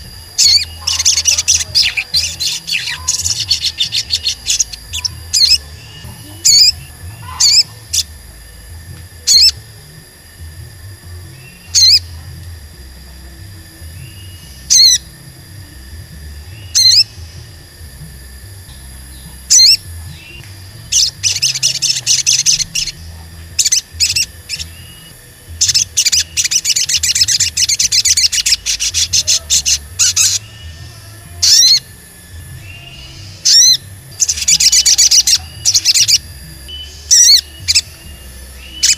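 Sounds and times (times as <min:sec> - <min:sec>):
bird chirping: 0:00.0 - 0:09.6, 0:11.3 - 0:12.4, 0:13.9 - 0:15.2, 0:16.4 - 0:17.6, 0:18.7 - 0:38.9
bird twittering song: 0:00.0 - 0:38.9.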